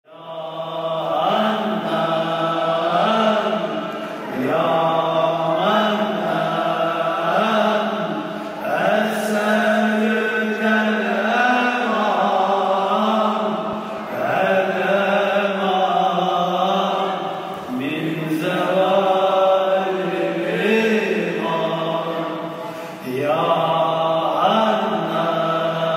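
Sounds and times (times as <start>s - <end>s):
man chanting unaccompanied: 0.1s - 25.9s.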